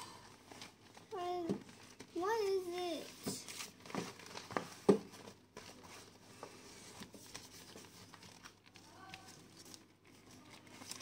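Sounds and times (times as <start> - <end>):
paper book rustling and clicking: 0.4 - 11.0.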